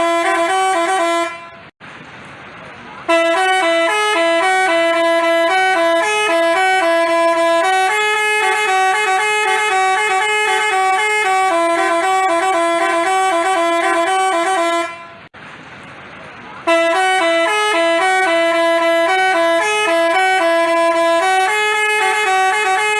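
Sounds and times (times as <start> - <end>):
bus horn playing a tune: 0.0 - 1.7, 3.0 - 15.3, 16.6 - 22.9.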